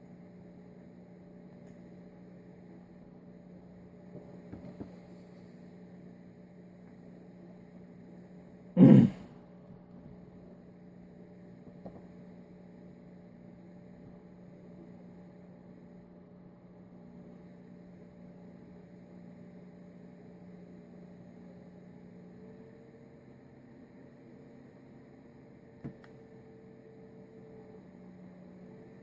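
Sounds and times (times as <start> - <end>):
faint electrical hum: 0.0 - 29.0.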